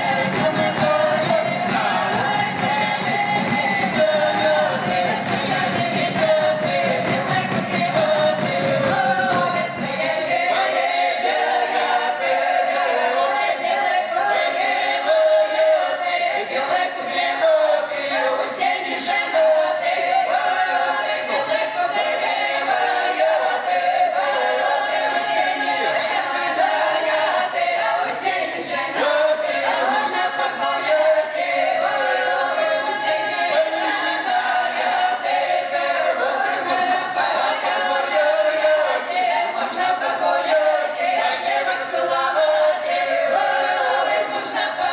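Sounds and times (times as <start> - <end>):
women's choir singing a cappella: 0.0 - 44.9.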